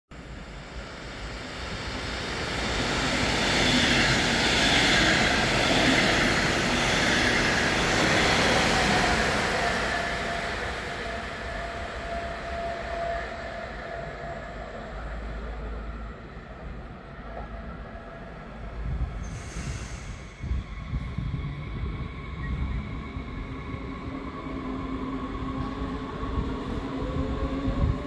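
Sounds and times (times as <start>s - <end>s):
train rumbling on rails: 0.2s - 28.0s.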